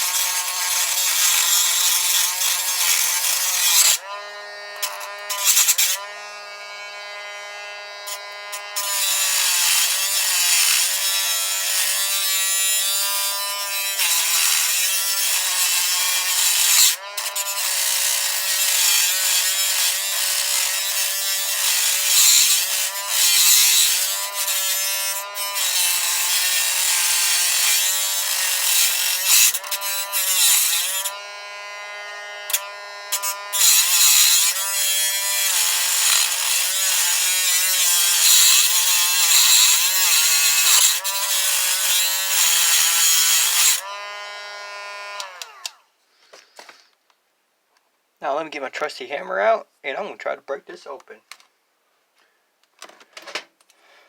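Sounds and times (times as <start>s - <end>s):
cut-off wheel grinding metal: 0.0s - 45.8s
rotary tool motor whine: 0.0s - 45.8s.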